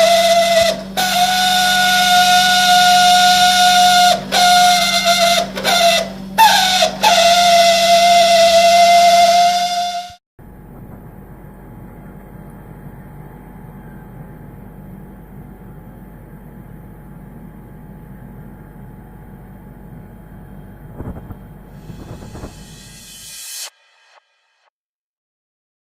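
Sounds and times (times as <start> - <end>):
refrigerator humming with whine: 0.0 - 23.0.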